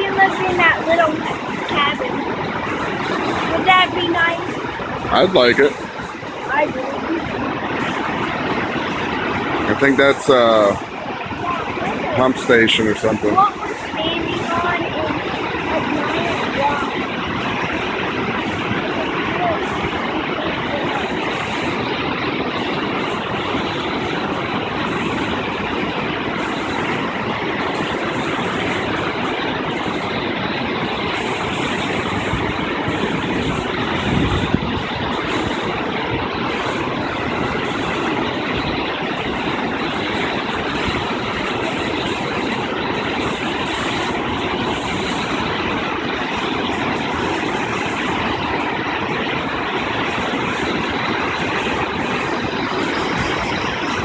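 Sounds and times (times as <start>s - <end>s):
river rapids rushing: 0.0s - 54.0s.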